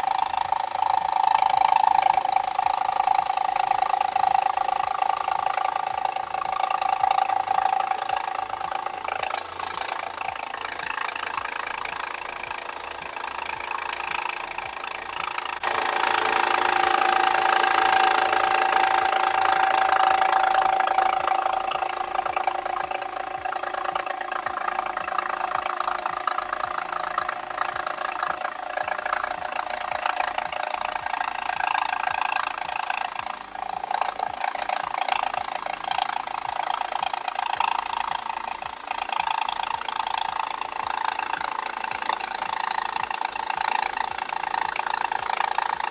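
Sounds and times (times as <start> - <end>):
jigsaw cutting plastic: 0.0 - 45.9.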